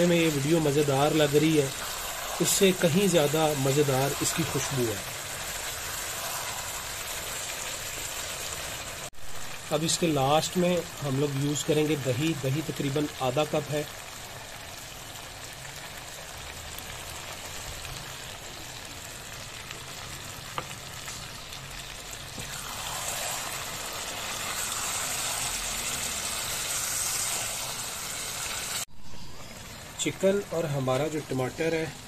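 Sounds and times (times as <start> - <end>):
food sizzling in frying pan: 0.0 - 32.0.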